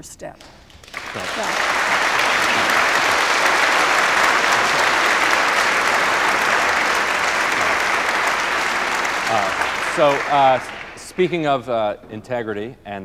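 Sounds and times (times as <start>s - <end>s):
audience applauding: 0.4s - 11.8s.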